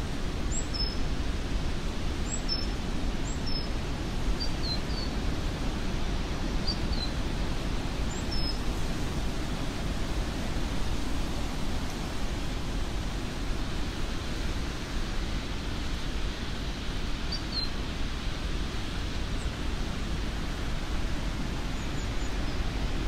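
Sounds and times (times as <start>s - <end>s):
wind rushing in trees: 0.0s - 23.0s.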